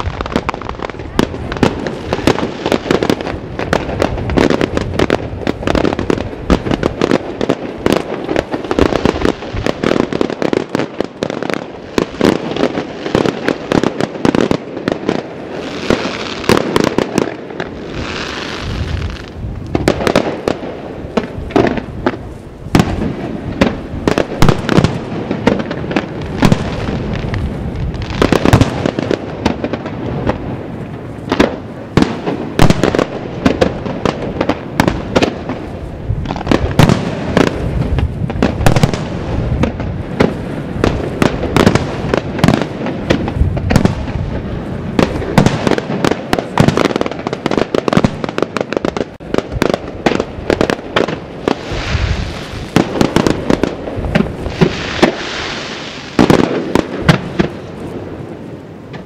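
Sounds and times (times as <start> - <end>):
fireworks bursting with sharp bangs: 0.0 - 59.0
loud firework booms: 0.0 - 59.0.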